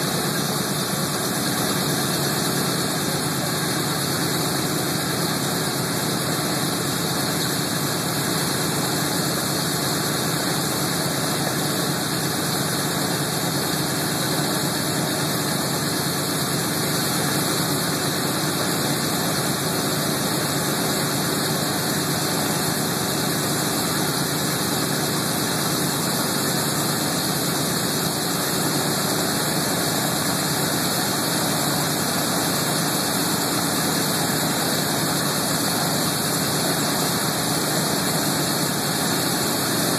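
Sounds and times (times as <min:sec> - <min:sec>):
aircraft radial engines idling: 0:00.0 - 0:39.9.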